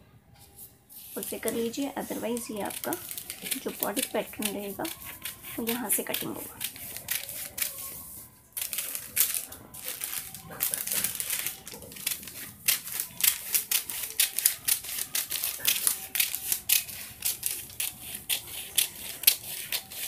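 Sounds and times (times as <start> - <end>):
scissors snipping paper: 1.0 - 20.0.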